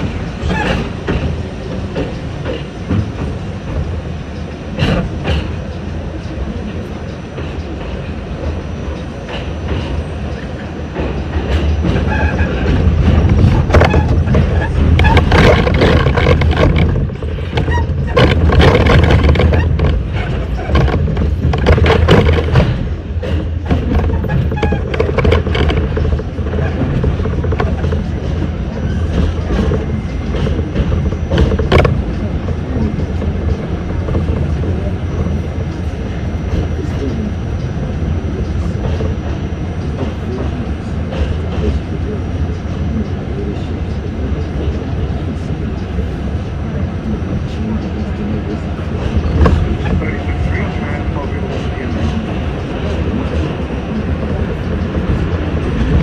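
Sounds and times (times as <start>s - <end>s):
wheels clacking over rail joints: 0.0s - 46.1s
subway wheels rumbling: 0.0s - 56.0s.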